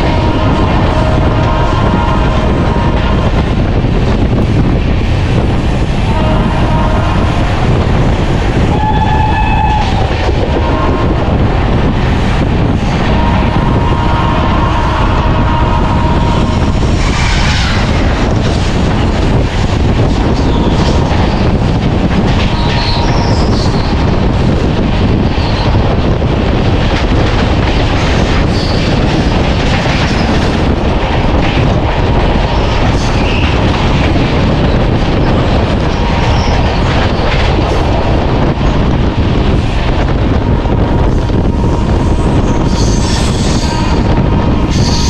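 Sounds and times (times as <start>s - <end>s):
freight train passing: 0.0s - 45.0s
rail clatter: 0.0s - 45.0s
train rumbling: 0.0s - 45.0s.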